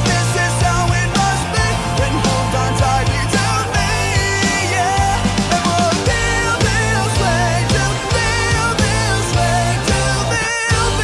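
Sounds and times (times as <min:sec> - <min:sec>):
bass: 0:00.0 - 0:11.0
drum beat: 0:00.0 - 0:11.0
person singing: 0:00.0 - 0:11.0
pop-rock music: 0:00.0 - 0:11.0.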